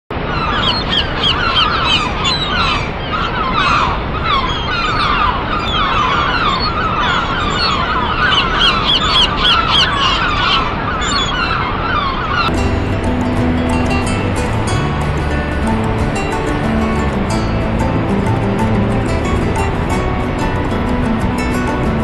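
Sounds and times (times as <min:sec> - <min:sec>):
birds chirping: 0:00.1 - 0:22.0
waterfall rushing: 0:00.1 - 0:22.0.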